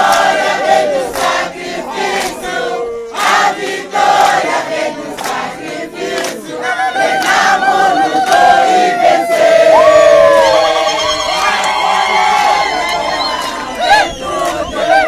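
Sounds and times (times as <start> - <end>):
hand claps: 0.0 - 2.6, 3.2 - 15.0
crowd singing and chanting: 0.0 - 15.0.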